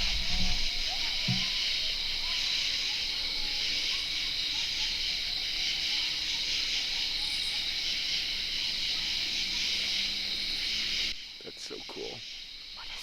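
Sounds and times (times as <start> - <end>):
crickets and katydids trilling: 0.0 - 13.0.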